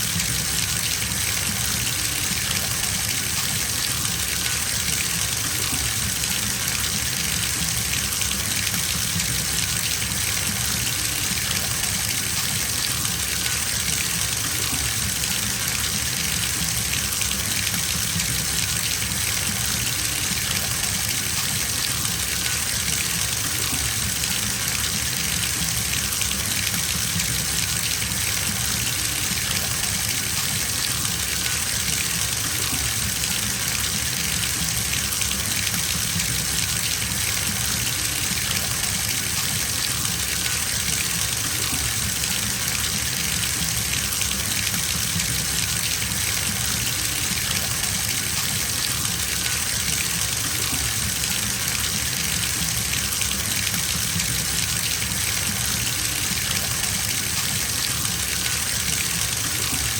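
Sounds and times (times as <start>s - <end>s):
water gushing into bathtub: 0.0s - 59.9s.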